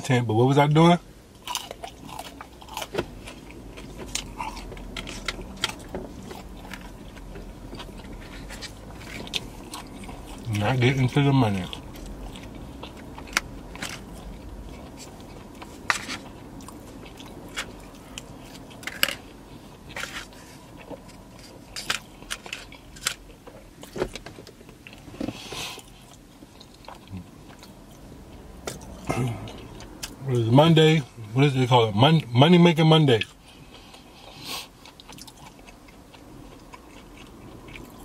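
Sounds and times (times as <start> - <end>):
person chewing: 1.4 - 23.9, 24.6 - 30.3, 33.2 - 38.0.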